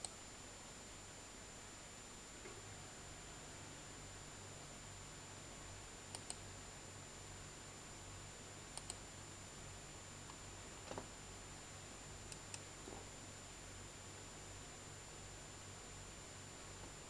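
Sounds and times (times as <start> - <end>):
faint electrical hum and hiss: 0.0 - 17.0.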